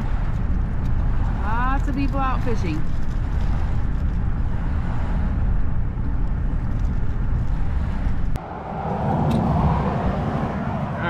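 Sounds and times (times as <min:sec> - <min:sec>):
road and wind noise in a car: 0:00.0 - 0:11.0.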